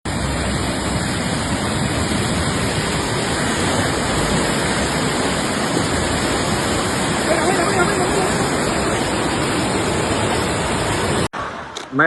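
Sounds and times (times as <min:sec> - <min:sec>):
floodwater rushing: 0:00.0 - 0:11.3.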